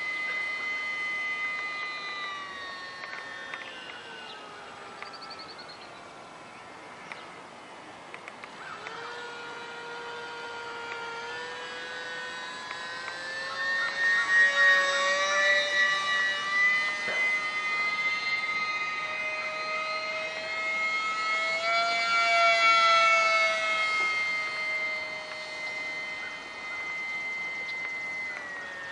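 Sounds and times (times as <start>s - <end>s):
small electric motor whining: 0.0s - 28.9s.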